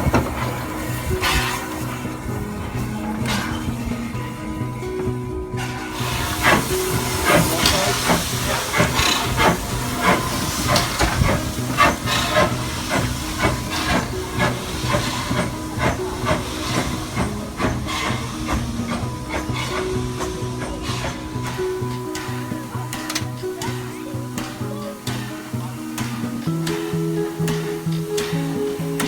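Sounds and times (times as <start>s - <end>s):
background music: 0.0s - 29.0s
steam engine exhaust beats: 0.0s - 29.0s
steam hissing: 0.0s - 29.0s.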